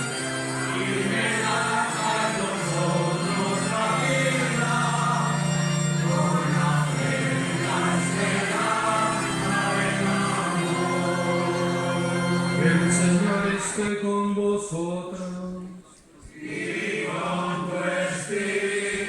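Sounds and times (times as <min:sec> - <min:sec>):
choir singing a hymn: 0:00.0 - 0:15.0, 0:15.8 - 0:19.0.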